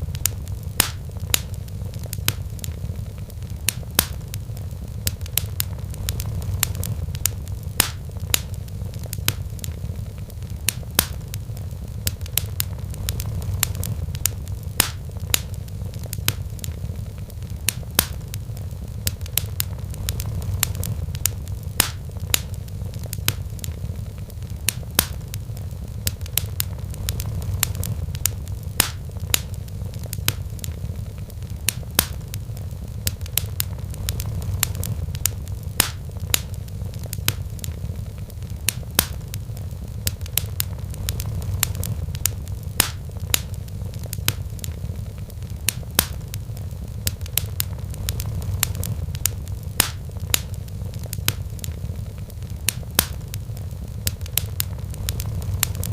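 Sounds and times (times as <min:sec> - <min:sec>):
low fire rumble: 0:00.0 - 0:55.9
wood fire crackling and popping: 0:00.0 - 0:55.9.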